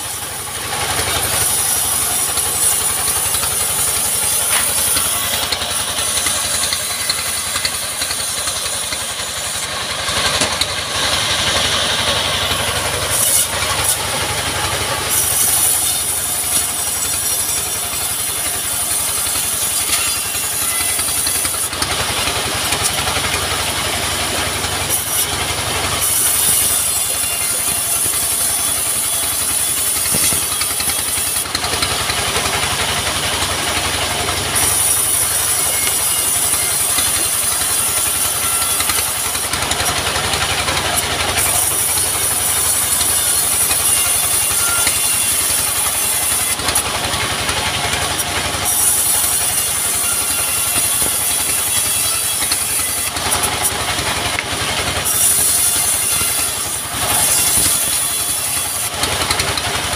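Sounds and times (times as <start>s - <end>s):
engine drone: 0.0s - 59.9s
saw blade hissing through wood: 0.0s - 59.9s.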